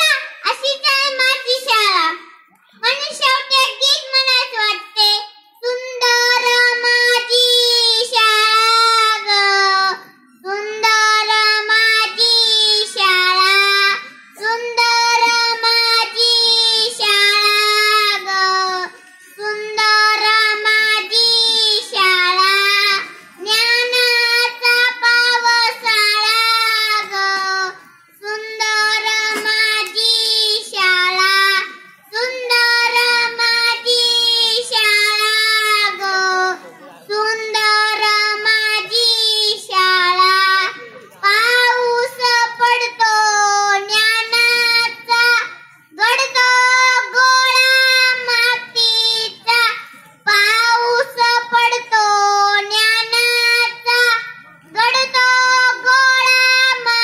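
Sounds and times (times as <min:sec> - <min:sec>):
child singing: 0:00.0 - 0:57.0.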